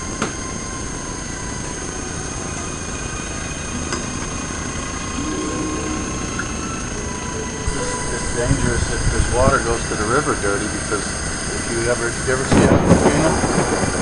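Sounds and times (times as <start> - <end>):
lab equipment humming: 0.0 - 13.6.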